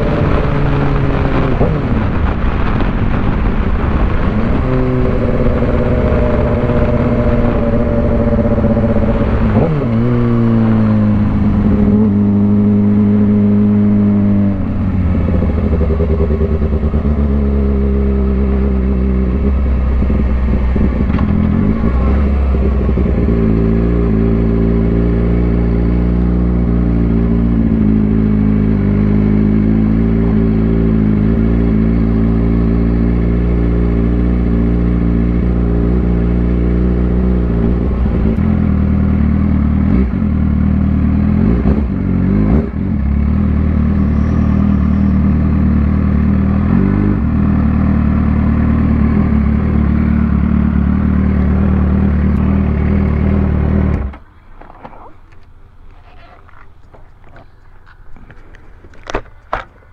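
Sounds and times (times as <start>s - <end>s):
motorcycle engine running: 0.0s - 54.3s.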